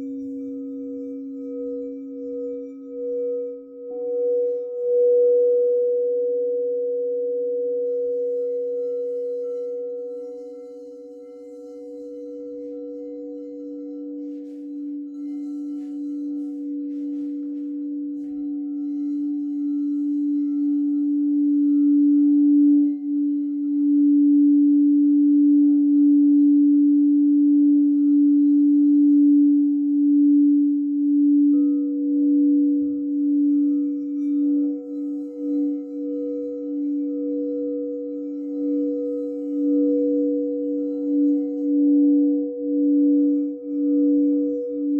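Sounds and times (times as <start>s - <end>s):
singing bowl humming: 0.0s - 44.9s.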